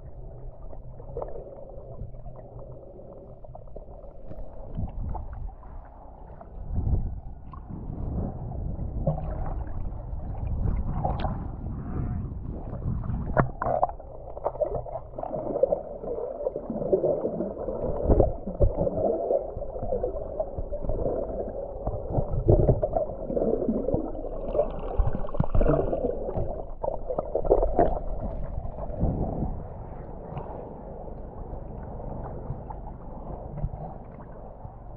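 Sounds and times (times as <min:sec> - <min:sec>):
muffled water sloshing and gurgling: 0:00.0 - 0:34.9.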